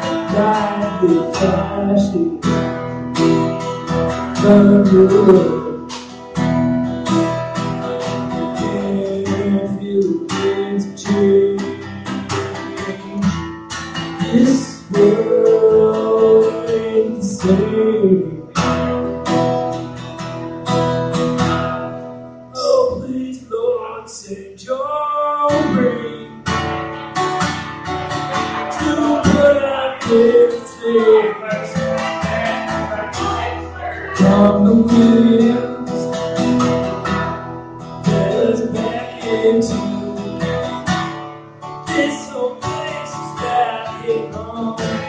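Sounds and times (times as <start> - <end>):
man singing: 0.0 - 6.4, 7.1 - 18.9, 21.3 - 27.2, 28.1 - 41.2, 41.8 - 45.0
acoustic guitar strumming: 0.0 - 45.0.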